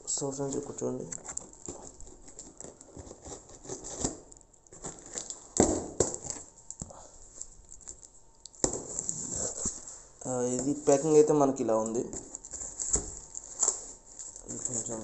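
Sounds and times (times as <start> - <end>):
paper rustling and crinkling: 0.1 - 15.0.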